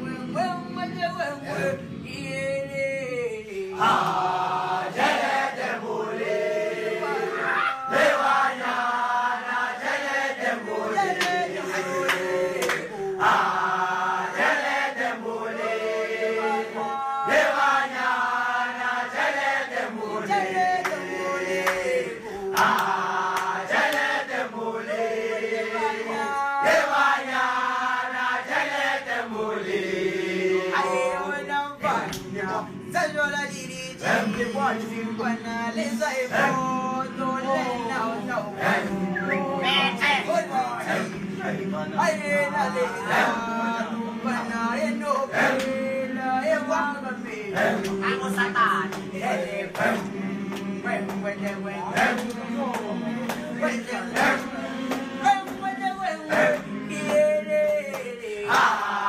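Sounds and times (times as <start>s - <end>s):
men singing a chant in unison: 0.0s - 59.0s.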